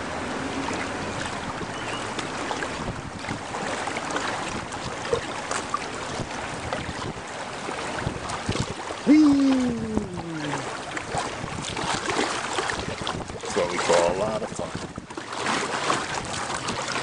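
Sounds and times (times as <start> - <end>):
rushing river current: 0.0 - 17.0
small water splashes: 0.0 - 17.0.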